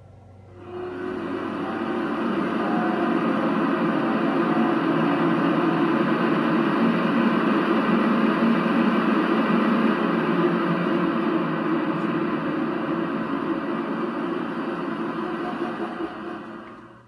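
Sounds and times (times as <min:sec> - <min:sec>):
steady rushing blower noise: 0:00.0 - 0:17.0.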